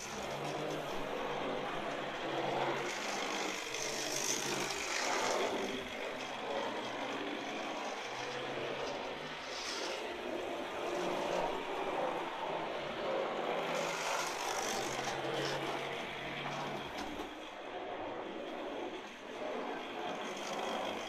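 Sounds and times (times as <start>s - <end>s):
model train motor whirring: 0.0s - 21.0s
wheels rolling on rails: 0.0s - 21.0s.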